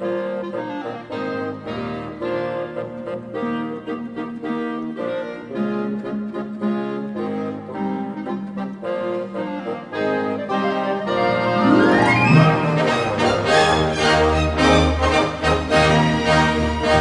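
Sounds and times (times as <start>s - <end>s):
accordion-like instrumental music: 0.0s - 17.0s.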